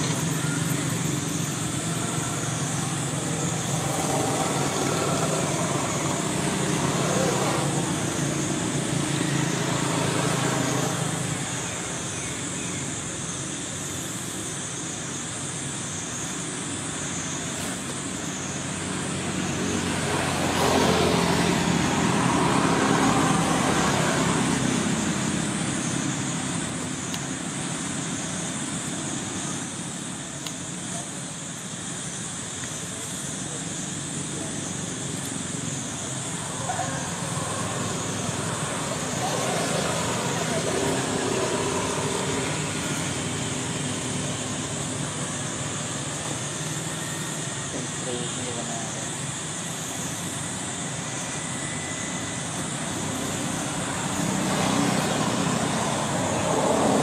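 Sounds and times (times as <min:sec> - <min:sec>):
motor traffic: 0:00.0 - 0:57.0.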